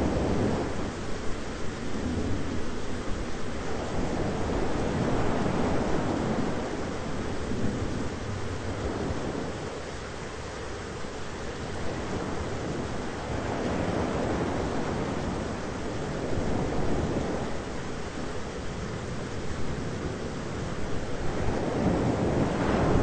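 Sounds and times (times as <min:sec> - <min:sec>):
rain rushing: 0:00.0 - 0:23.0
wind noise: 0:00.0 - 0:23.0.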